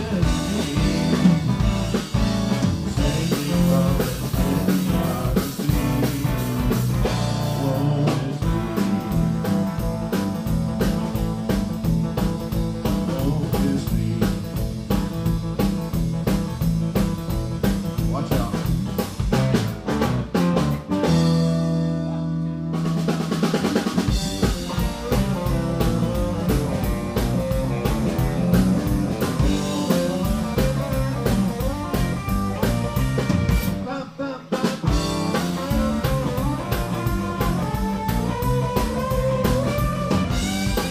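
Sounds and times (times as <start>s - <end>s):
electric bass: 0.0s - 33.9s, 34.8s - 40.9s
drum kit: 0.0s - 40.9s
electric guitar: 0.0s - 40.9s.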